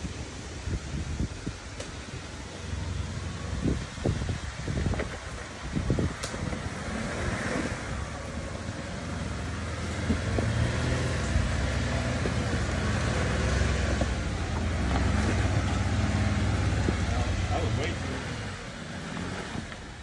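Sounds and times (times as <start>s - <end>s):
car engine crawling: 0.0s - 20.0s.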